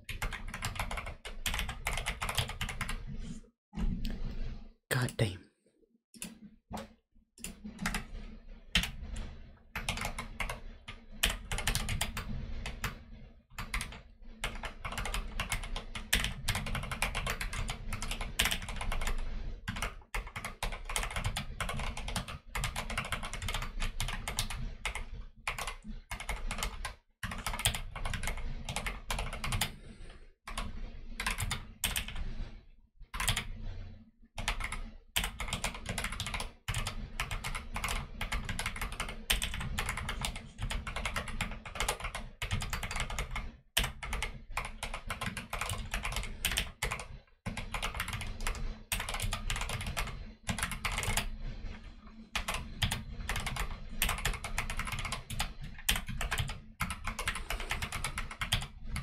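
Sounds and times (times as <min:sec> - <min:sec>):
mechanical keyboard typing: 0:00.0 - 0:03.0, 0:06.2 - 0:08.1, 0:09.8 - 0:13.0, 0:13.6 - 0:29.8, 0:30.5 - 0:32.2, 0:33.2 - 0:33.5, 0:34.4 - 0:51.4, 0:52.4 - 0:59.0.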